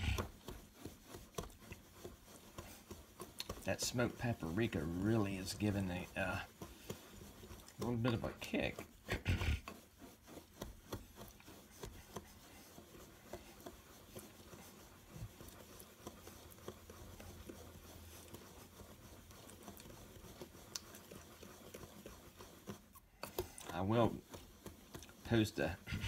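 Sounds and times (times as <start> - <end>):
whisk rasping in dry mix: 0.0 - 26.0.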